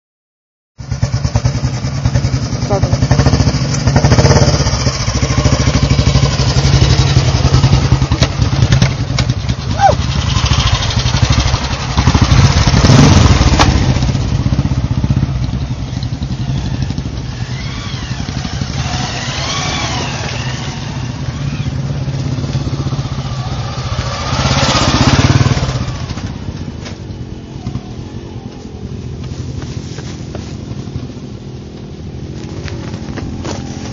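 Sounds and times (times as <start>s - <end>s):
motorcycle engines thumping: 0.8s - 33.9s.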